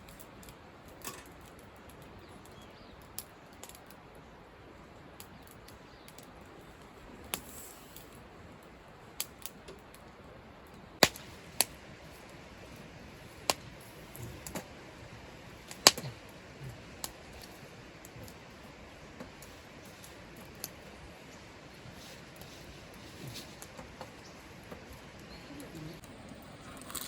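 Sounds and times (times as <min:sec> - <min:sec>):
faint steady background noise: 0:00.0 - 0:27.0.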